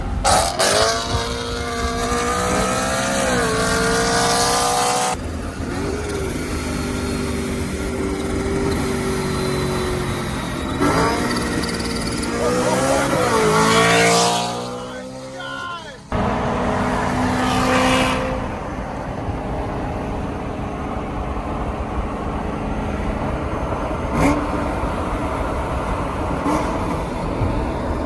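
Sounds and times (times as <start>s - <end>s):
supercharged car engine whine: 0.0s - 28.0s.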